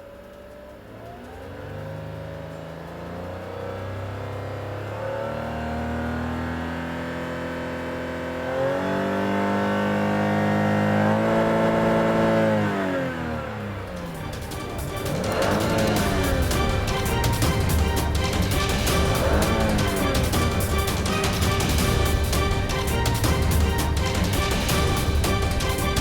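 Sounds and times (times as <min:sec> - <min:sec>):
car engine pulling hard: 0:00.0 - 0:26.0.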